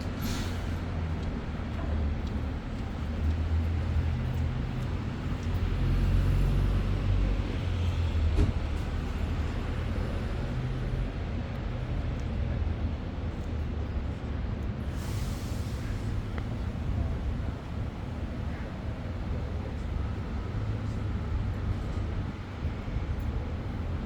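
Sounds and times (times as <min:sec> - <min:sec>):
bus cabin road rumble: 0:00.0 - 0:24.0.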